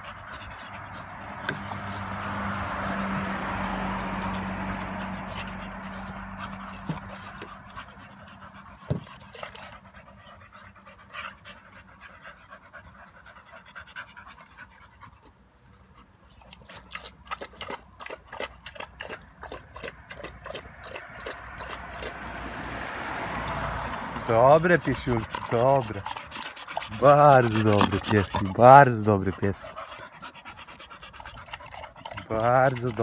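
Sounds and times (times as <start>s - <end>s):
dogs panting: 0.0s - 33.0s.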